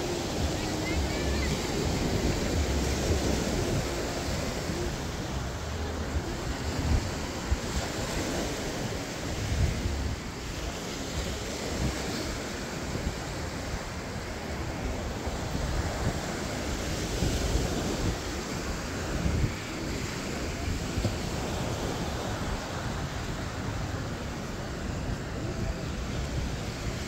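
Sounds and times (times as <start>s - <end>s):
surf washing onto beach: 0.0s - 27.0s
wind: 0.0s - 27.0s
wind buffeting microphone: 0.0s - 27.0s.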